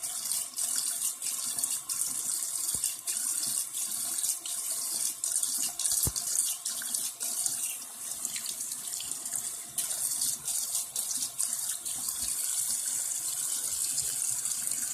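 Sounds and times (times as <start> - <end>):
tap water running into sink: 0.0 - 14.9.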